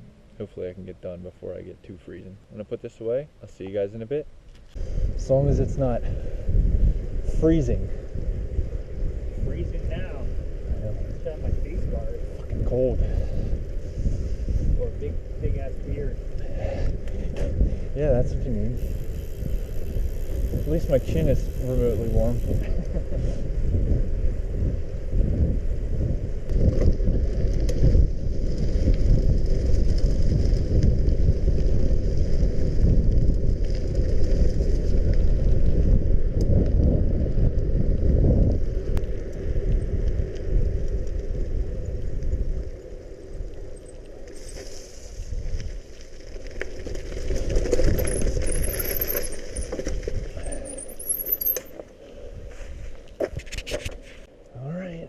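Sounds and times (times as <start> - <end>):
wind rumbling on microphone: 3.6 - 54.4
bicycle being ridden: 4.4 - 54.4
mountain bike rattling: 4.8 - 52.3.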